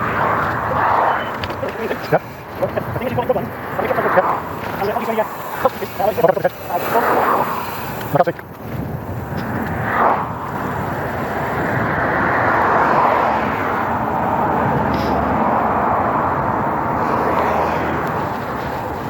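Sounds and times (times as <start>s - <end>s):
tyre road noise: 0.0s - 19.0s
wind noise: 0.0s - 19.0s.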